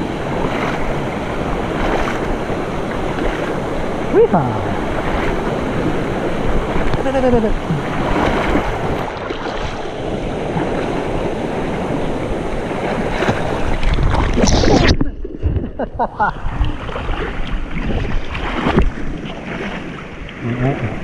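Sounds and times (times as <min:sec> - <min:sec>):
wind buffeting microphone: 0:00.0 - 0:19.7
legs dragged through water: 0:00.0 - 0:21.0
river water rushing and splashing: 0:00.0 - 0:21.0.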